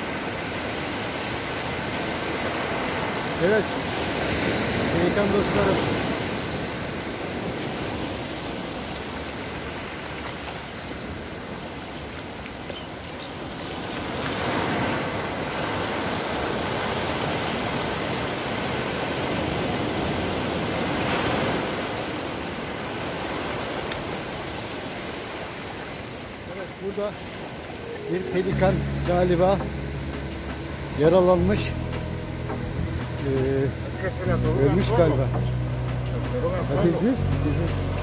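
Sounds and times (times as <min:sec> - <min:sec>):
ocean surf breaking on beach: 0:00.0 - 0:38.0.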